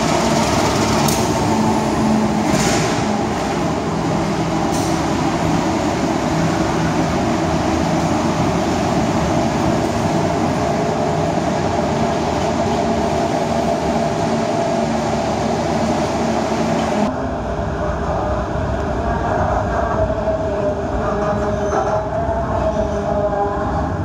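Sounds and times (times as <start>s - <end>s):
train rumbling and hissing: 0.0s - 24.0s.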